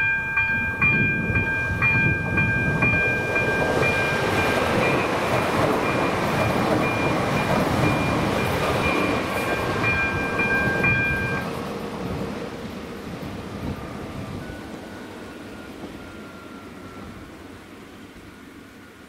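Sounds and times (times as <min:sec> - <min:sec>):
crossing warning bell dinging: 0:00.0 - 0:11.7, 0:13.6 - 0:18.5
train wheels rolling over rails: 0:00.0 - 0:17.6.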